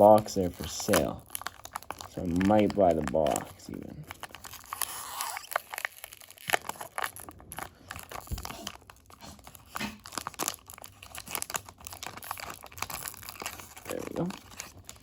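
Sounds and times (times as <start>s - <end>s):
wax paper wrapper crinkling and tearing: 0.0s - 15.0s.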